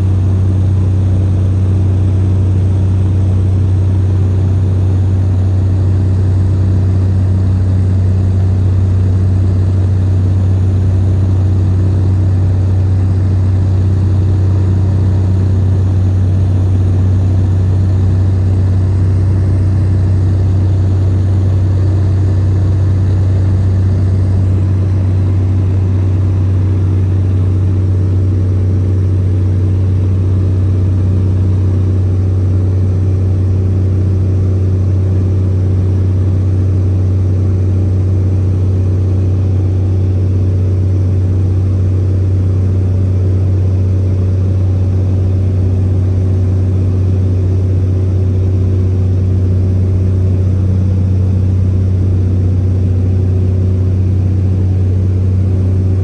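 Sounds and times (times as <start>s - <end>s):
airplane engine and propeller humming: 0.0s - 56.0s.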